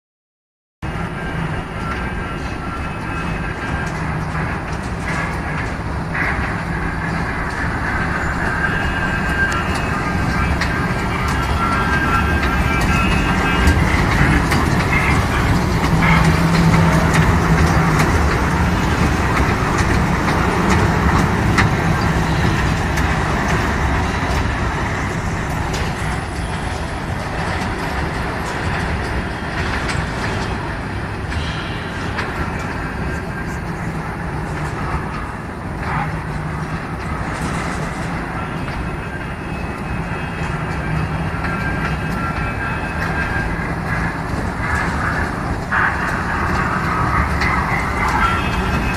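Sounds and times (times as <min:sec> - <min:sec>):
ride mechanical rumble: 0:00.9 - 0:48.9.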